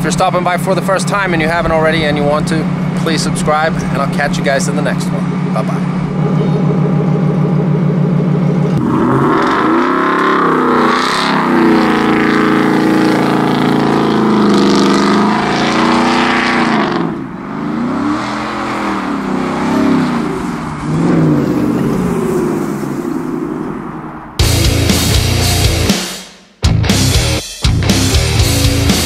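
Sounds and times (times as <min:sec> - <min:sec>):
truck engine revving: 0:00.0 - 0:26.1, 0:26.7 - 0:29.0.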